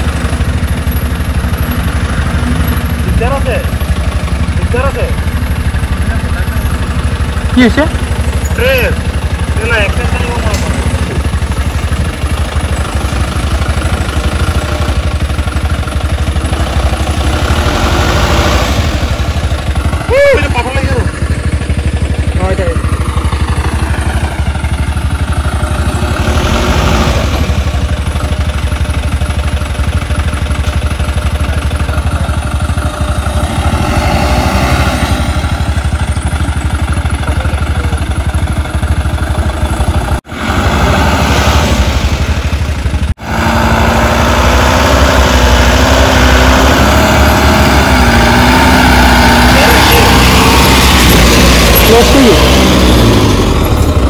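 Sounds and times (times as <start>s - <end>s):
car engine humming: 0.0s - 54.0s
motorcycle engine rumbling: 0.0s - 54.0s.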